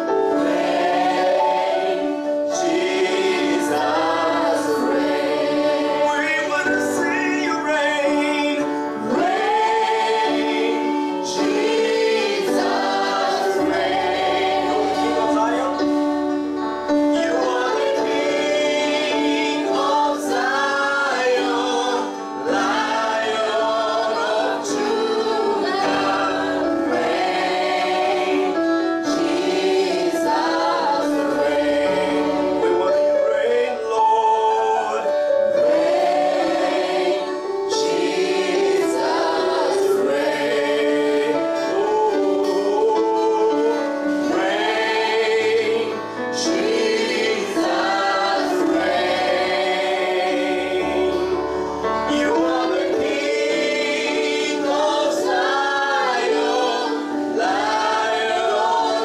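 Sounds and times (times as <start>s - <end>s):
group singing gospel: 0.0s - 59.0s
held accompaniment: 0.0s - 59.0s.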